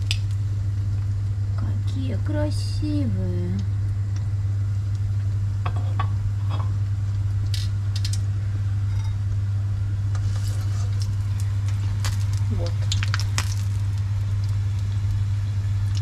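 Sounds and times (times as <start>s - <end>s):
food frying in oil: 0.0s - 16.0s
steady low hum: 0.0s - 16.0s.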